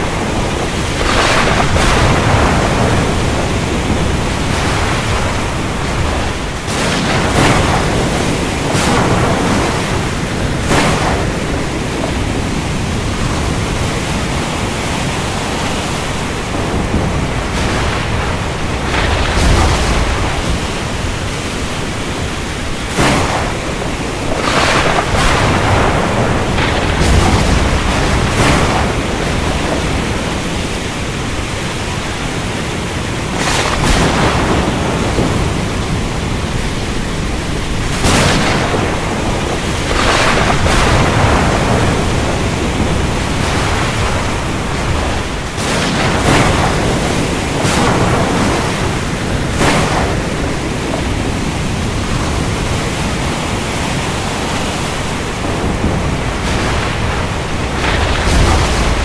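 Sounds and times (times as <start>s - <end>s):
heavy rain hissing: 0.0s - 59.0s
thunder cracks: 0.0s - 59.0s.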